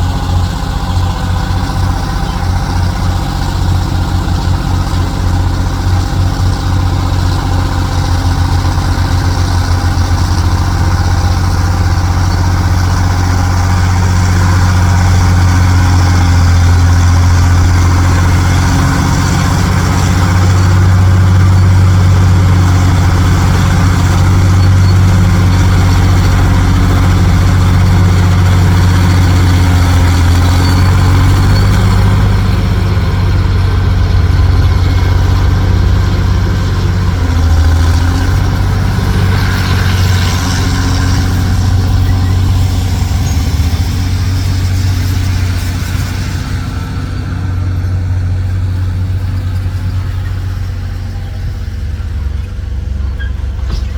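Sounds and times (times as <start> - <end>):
diesel truck engine running: 0.0 - 53.9
rushing noise: 0.0 - 53.9.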